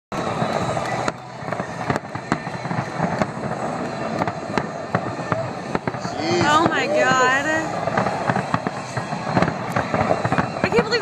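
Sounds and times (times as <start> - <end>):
fireworks bangs: 0.1 - 11.0.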